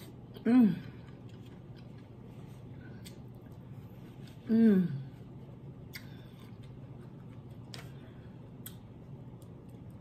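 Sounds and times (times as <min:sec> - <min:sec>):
person chewing food: 0:00.0 - 0:04.5, 0:05.8 - 0:10.0.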